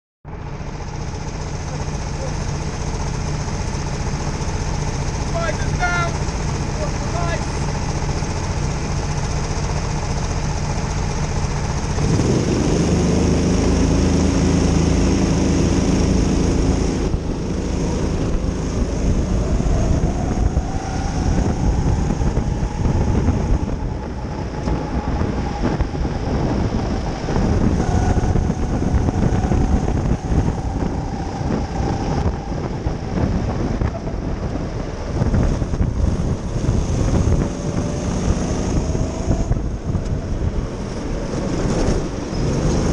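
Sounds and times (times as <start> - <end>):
go-kart engines idling: 0.3 - 38.2
kart engine accelerating: 0.3 - 42.9.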